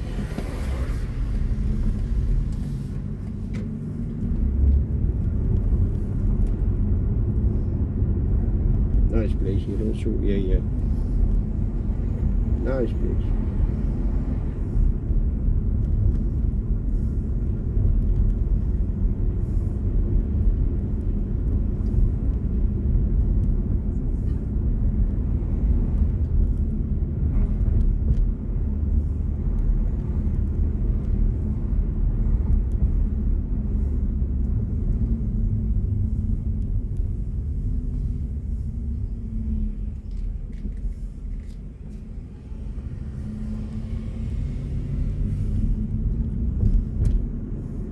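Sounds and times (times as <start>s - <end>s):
tyre and road noise: 0.0s - 47.9s.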